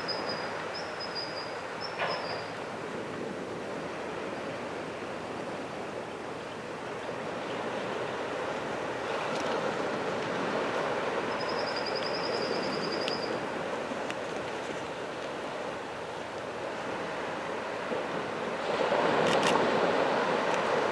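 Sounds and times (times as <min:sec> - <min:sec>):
waves washing onto beach: 0:00.0 - 0:20.9.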